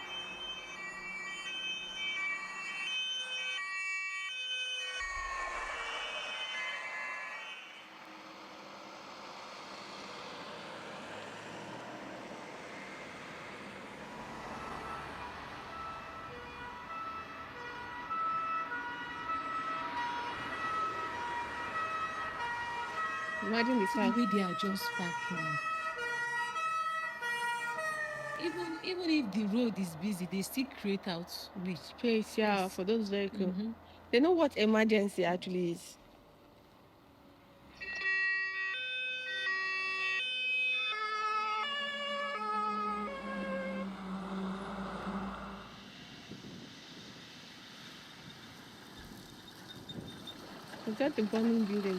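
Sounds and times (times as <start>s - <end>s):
fire truck two-tone siren: 0.0s - 31.1s, 37.6s - 47.2s, 49.0s - 51.9s
road traffic noise: 0.0s - 51.9s
vehicle rumble: 5.0s - 37.9s, 41.2s - 51.9s.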